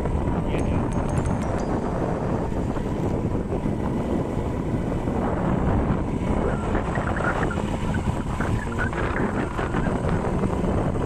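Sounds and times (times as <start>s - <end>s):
vehicle engine on dirt track: 0.0s - 11.0s
wind buffeting microphone: 0.0s - 11.0s.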